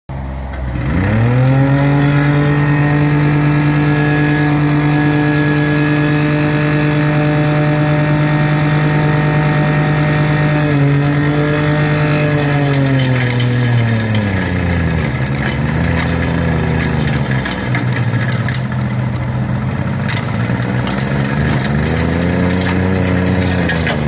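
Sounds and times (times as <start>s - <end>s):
loader engine revving: 0.1s - 24.0s.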